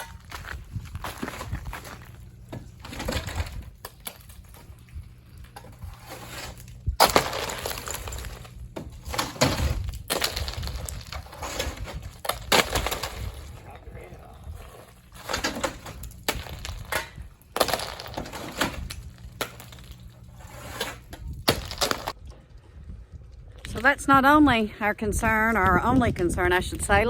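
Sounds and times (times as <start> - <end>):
ice cracking and crunching: 0.0 - 22.2.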